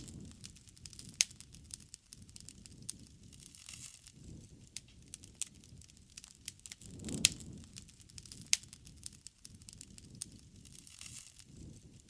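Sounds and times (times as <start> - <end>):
wood campfire crackling and popping: 0.0 - 12.0.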